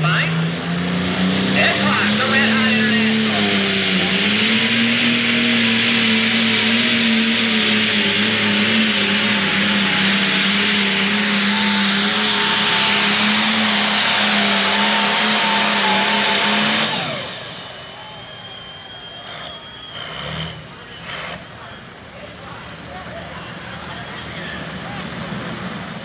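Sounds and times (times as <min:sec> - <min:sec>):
diesel tractor engine droning: 0:00.0 - 0:26.0.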